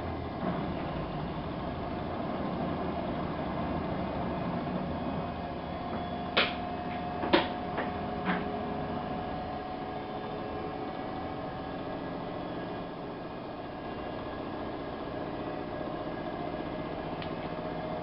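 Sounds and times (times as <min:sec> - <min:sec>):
thin whine: 0:00.0 - 0:18.0
washing machine running: 0:00.0 - 0:18.0.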